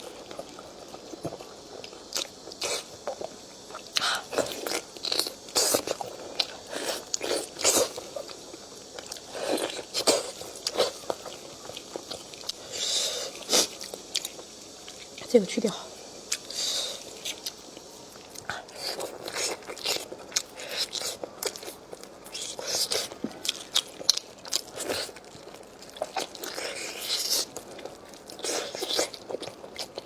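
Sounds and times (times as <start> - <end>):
person chewing meat off bone: 0.0 - 15.2, 16.2 - 30.0.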